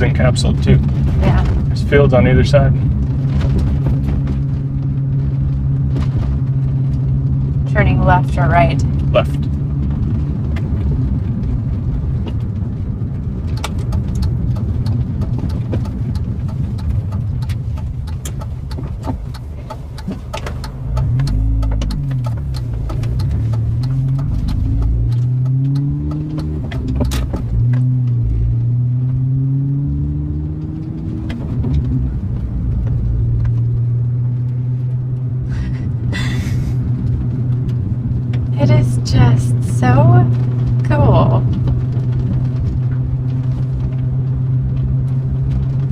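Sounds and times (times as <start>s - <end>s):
car engine and road noise: 0.0s - 45.9s.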